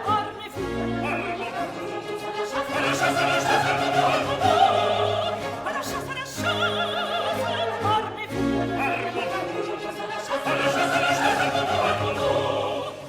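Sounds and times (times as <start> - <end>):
high voice singing opera: 0.0 - 13.0
orchestra playing: 0.0 - 13.0.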